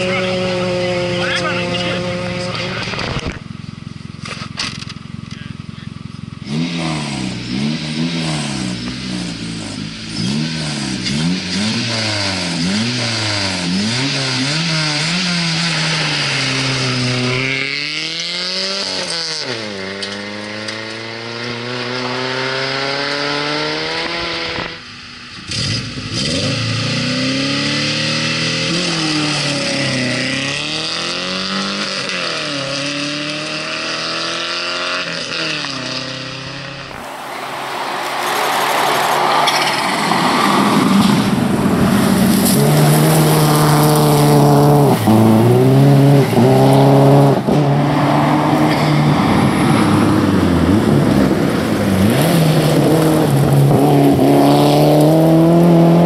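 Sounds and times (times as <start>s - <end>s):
another rally car engine revving: 0.0s - 37.1s, 39.5s - 56.0s
rally car engine revving: 0.0s - 56.0s.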